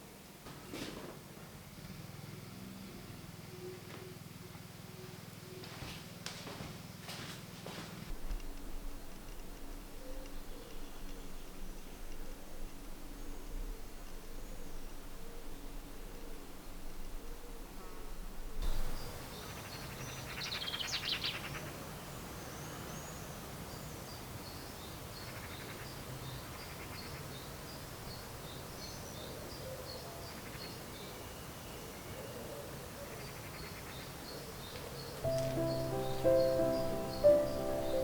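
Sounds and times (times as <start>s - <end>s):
steady background hiss: 0.0s - 32.2s, 32.8s - 38.0s.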